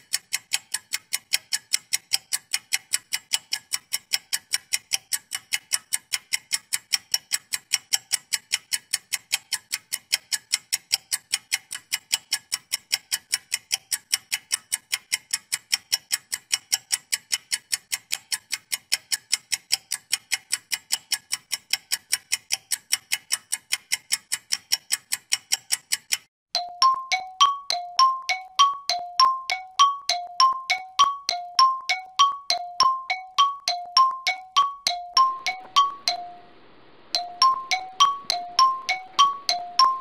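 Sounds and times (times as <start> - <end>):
steady ticking: 0.0 - 40.0.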